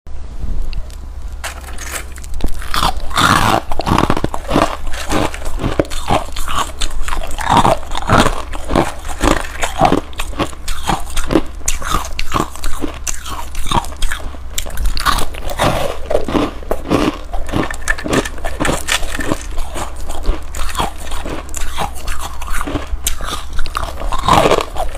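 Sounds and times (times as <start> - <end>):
steady low hum: 0.1 - 24.9
frost crunching as chewed: 1.4 - 24.9.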